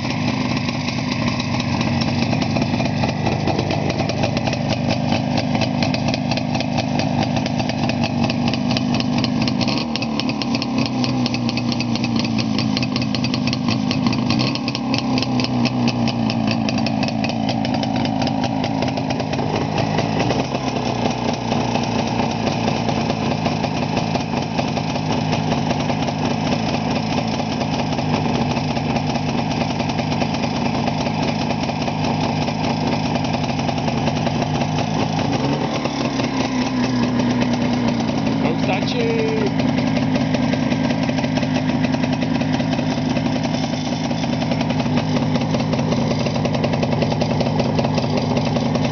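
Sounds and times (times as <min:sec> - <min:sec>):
two-stroke engine running: 0:00.0 - 0:48.9.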